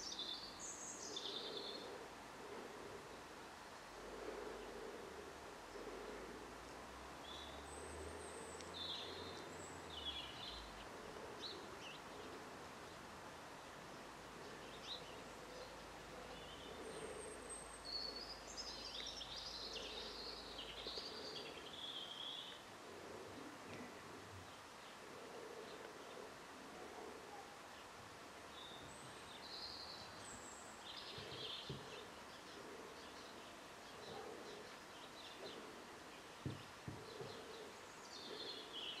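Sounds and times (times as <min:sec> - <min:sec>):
background hiss: 0:00.0 - 0:39.0
garden birds twittering: 0:00.0 - 0:39.0.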